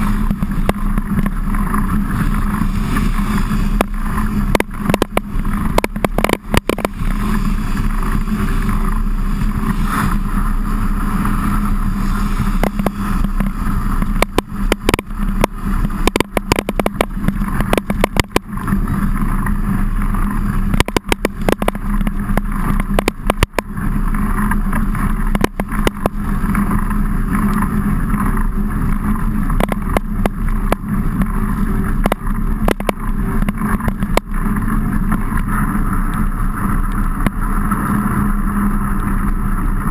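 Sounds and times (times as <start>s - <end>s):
bike knocks and rattles: 0.0s - 38.1s
bike tyres rumbling on wet trail: 0.0s - 39.9s
rain: 0.0s - 39.9s.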